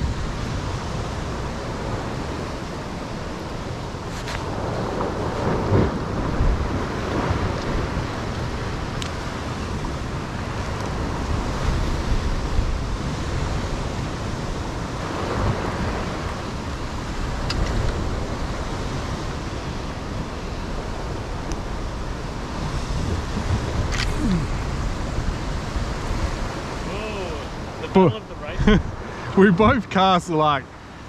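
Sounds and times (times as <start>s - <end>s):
wind buffeting microphone: 0.0s - 30.9s
surf washing against cliff: 0.0s - 31.0s.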